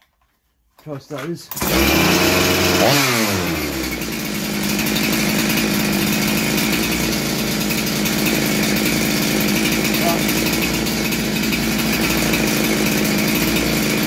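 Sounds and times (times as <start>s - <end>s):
two-stroke chainsaw engine idling: 1.5s - 14.0s.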